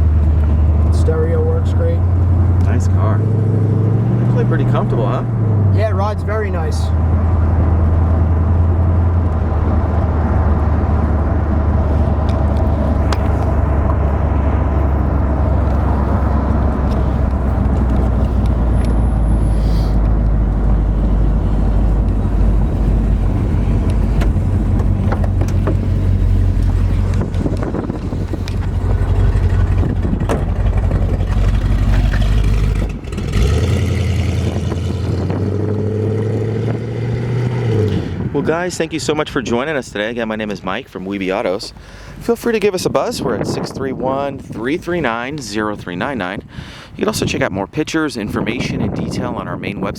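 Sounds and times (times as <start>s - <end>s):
car engine and road rumble: 0.0s - 49.9s.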